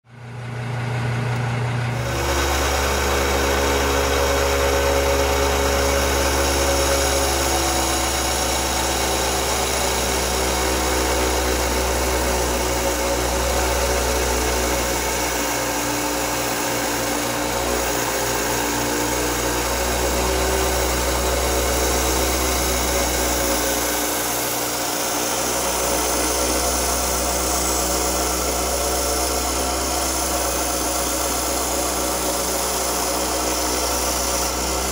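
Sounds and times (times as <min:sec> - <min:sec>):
wet band saw motor hum: 0:00.1 - 0:34.9
saw blade grinding glass: 0:02.0 - 0:34.9.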